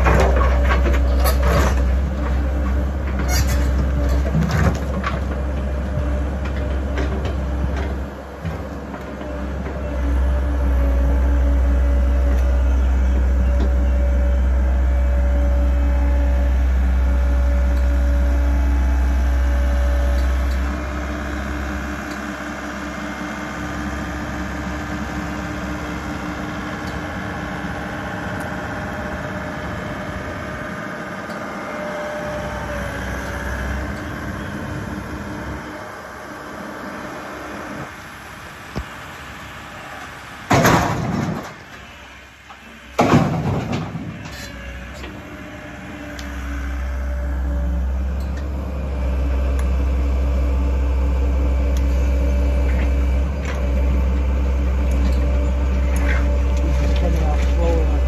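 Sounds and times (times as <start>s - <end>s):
excavator diesel engine droning: 0.0s - 58.0s.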